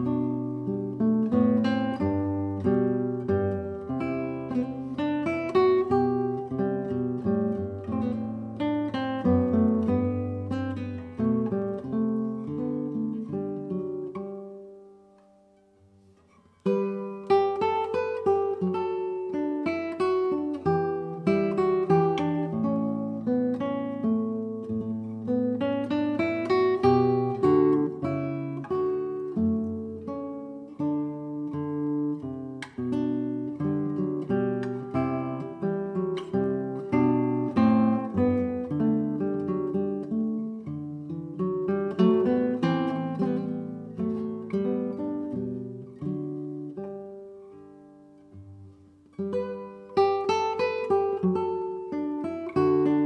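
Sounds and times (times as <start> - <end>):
plucked acoustic guitar: 0.0 - 53.0.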